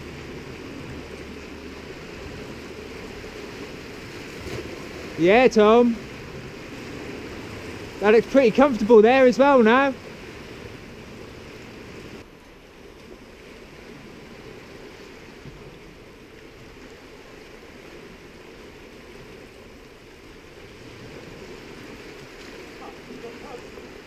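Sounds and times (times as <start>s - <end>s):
sea surf rushing: 0.0s - 12.4s, 13.1s - 24.0s
wind: 0.0s - 24.0s.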